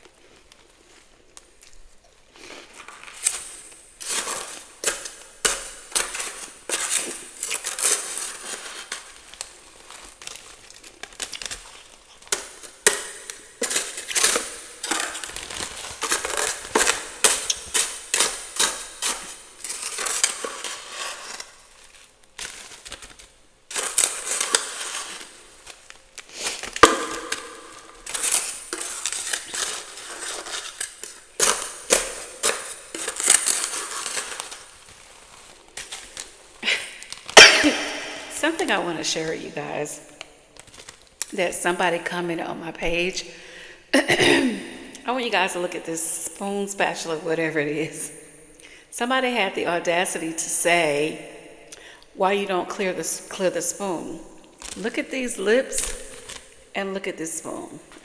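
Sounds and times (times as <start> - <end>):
frost crunching: 0.0 - 42.1, 49.5 - 58.0.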